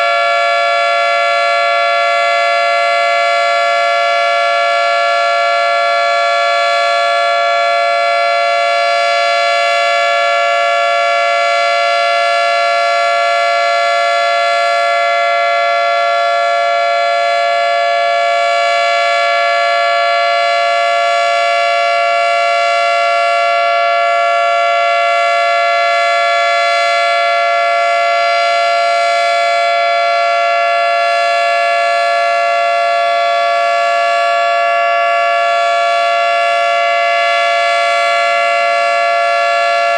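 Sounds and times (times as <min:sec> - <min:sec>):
outdoor warning siren steady chord: 0:00.0 - 0:39.9.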